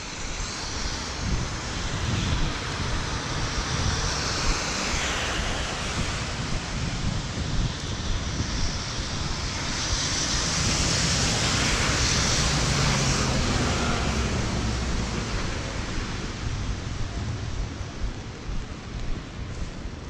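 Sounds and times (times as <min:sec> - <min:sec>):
tyres hissing on wet road: 0:00.0 - 0:17.9
bus engine rumble: 0:00.0 - 0:20.0
wind on microphone: 0:00.0 - 0:20.0.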